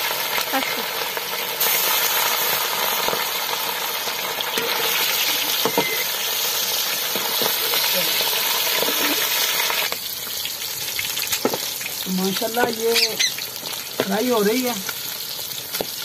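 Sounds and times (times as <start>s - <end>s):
fish deep-frying bubbling sizzle: 0.0s - 16.0s.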